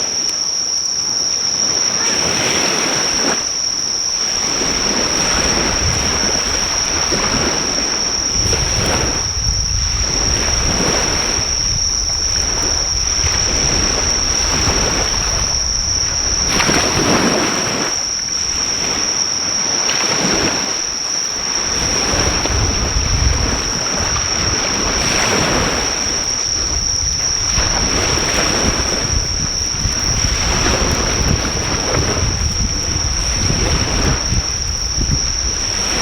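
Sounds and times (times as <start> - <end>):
insects trilling: 0.0 - 36.0
sea waves washing ashore: 0.0 - 36.0.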